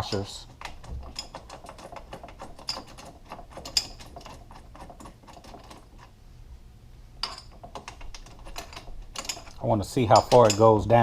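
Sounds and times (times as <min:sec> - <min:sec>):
metallic clicking of bolt and washers: 0:00.0 - 0:06.1, 0:07.2 - 0:10.8.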